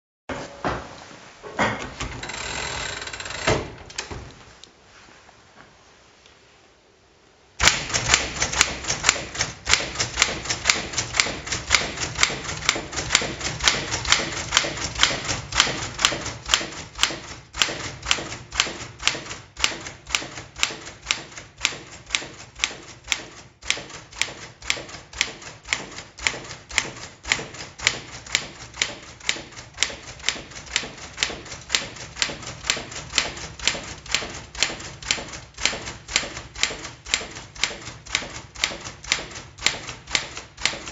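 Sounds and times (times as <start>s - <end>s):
typewriter key strikes: 7.6s - 40.9s.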